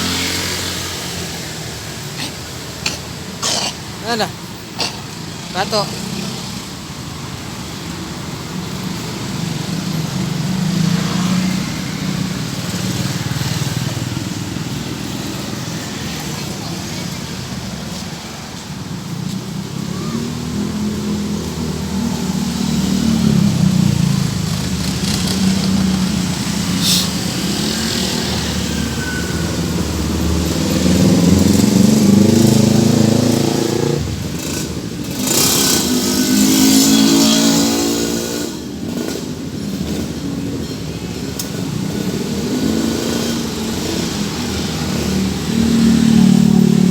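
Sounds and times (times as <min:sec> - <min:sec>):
passing road vehicles: 0:00.0 - 0:46.9.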